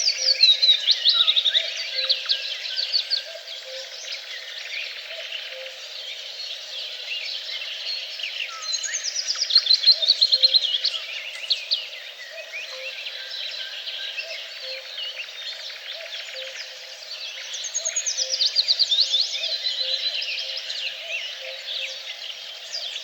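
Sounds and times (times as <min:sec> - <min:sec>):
songbirds singing and chirping: 0:00.0 - 0:23.0.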